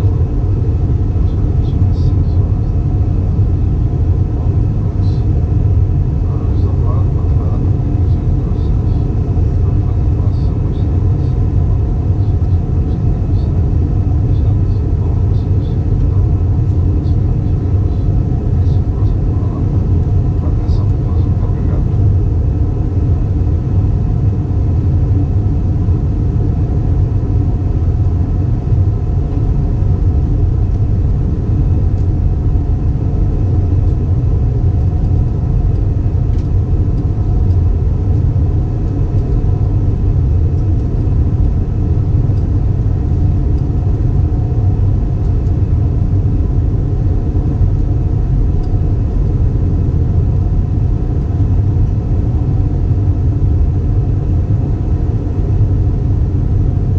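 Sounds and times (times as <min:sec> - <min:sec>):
jet engine cabin drone: 0:00.0 - 0:56.9.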